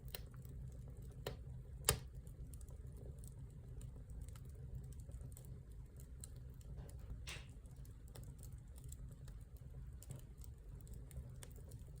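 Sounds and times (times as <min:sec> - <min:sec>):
low fire rumble: 0:00.0 - 0:12.0
wood fire crackling and popping: 0:00.0 - 0:12.0.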